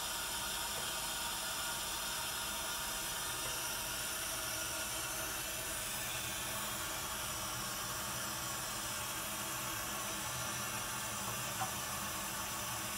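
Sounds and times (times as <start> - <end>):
water running from bathtub tap: 0.1 - 12.9.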